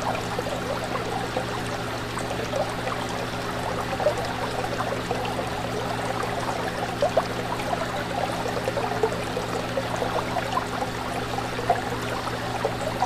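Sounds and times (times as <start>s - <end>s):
fish tank water bubbling: 0.0s - 13.0s.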